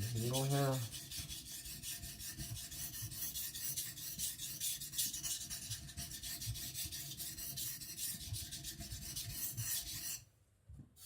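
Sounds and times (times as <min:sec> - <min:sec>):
blade scraping on whetstone: 0:00.0 - 0:10.2.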